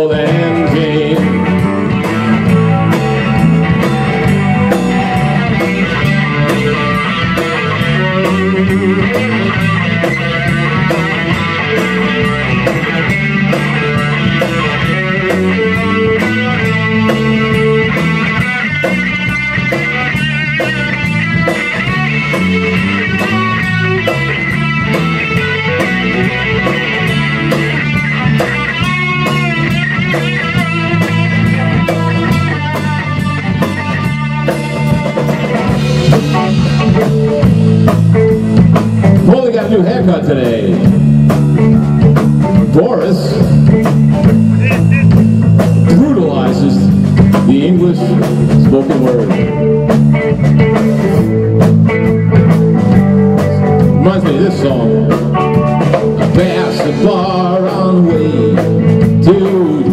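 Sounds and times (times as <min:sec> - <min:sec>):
drum kit: 0:00.0 - 0:59.9
electric bass: 0:00.0 - 0:59.9
electric guitar lead: 0:00.0 - 0:59.9.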